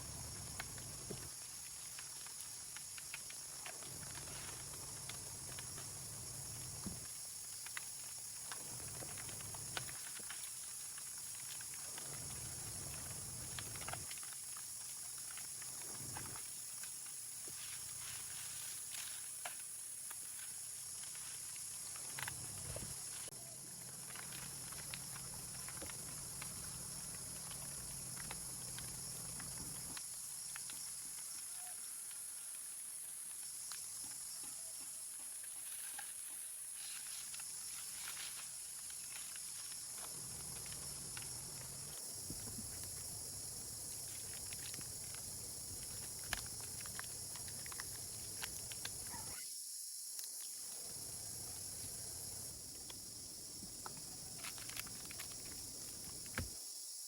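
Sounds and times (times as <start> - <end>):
high outdoor hiss: 0.0 - 57.0.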